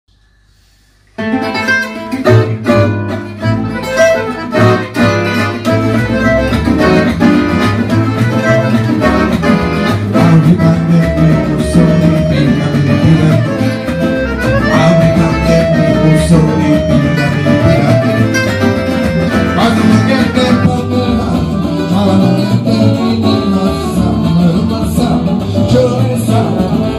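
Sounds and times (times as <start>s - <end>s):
accordion: 1.1s - 26.9s
acoustic guitars picking and strumming: 1.1s - 26.9s
upright double bass: 1.2s - 26.9s.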